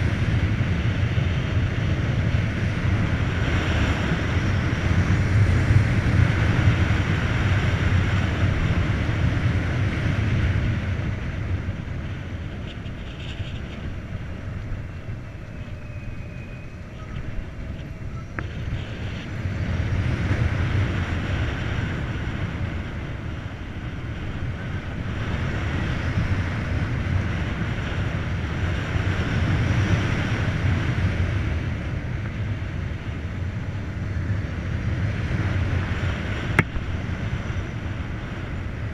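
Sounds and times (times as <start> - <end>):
motorcycle tyre roar: 0.0 - 38.9
wind buffeting microphone: 0.0 - 38.9.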